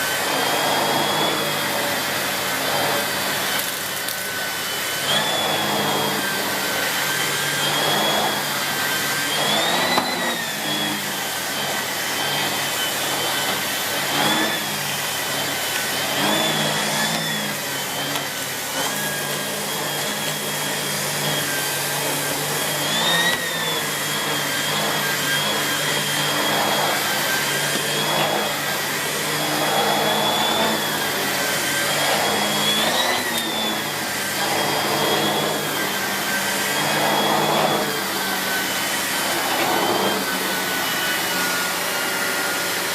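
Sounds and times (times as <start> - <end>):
vacuum cleaner motor whine: 0.0 - 42.9.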